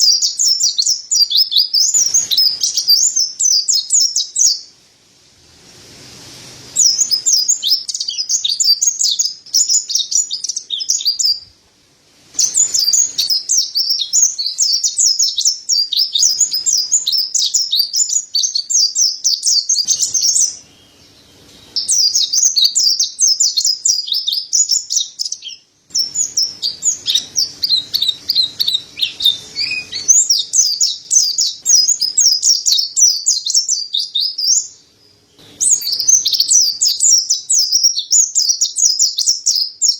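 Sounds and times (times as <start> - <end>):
bird twittering song: 0.0 - 4.7, 6.7 - 11.6, 12.4 - 39.9.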